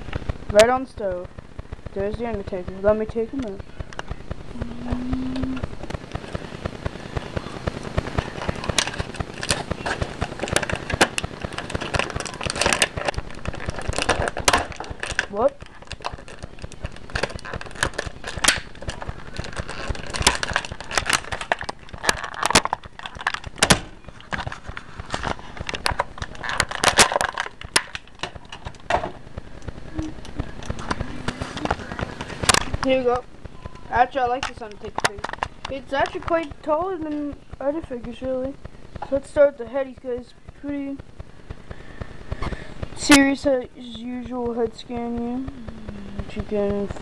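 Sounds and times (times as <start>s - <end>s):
plastic and cardboard crackling: 0.0s - 47.0s.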